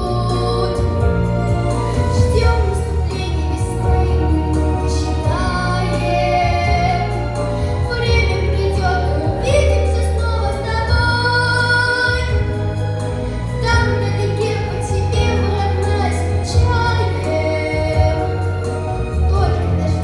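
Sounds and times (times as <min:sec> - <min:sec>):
girl singing: 0:00.0 - 0:01.3, 0:01.9 - 0:12.6, 0:13.6 - 0:20.0
instrumental accompaniment with bass: 0:00.0 - 0:20.0.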